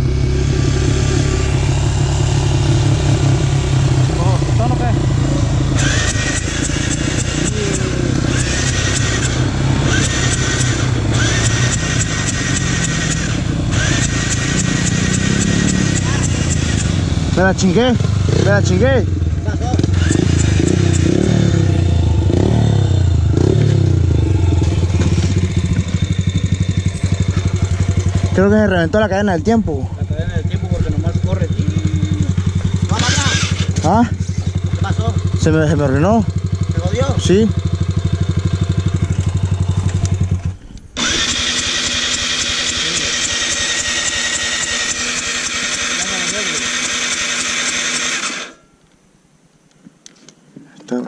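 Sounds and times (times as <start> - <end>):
dirt bike engine idling and revving: 0.0 - 48.8.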